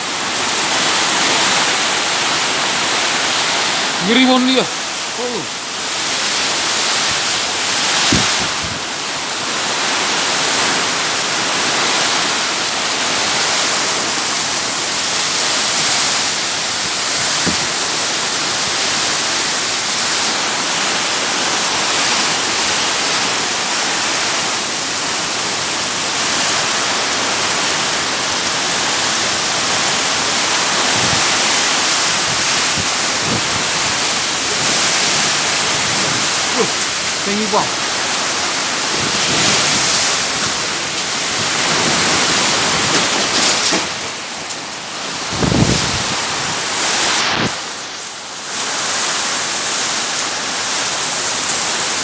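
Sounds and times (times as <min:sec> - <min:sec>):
heavy rain pouring: 0:00.0 - 0:52.0.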